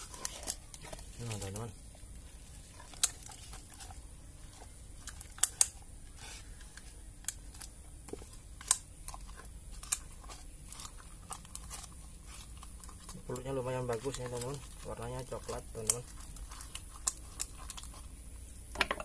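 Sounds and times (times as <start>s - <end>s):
sticky tearing sounds: 0.0s - 18.4s.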